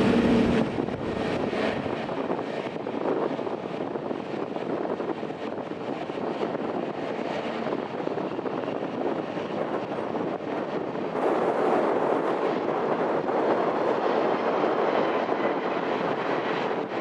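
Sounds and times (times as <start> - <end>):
distant jet engines rushing: 0.0 - 17.0
wind buffeting microphone: 0.0 - 17.0.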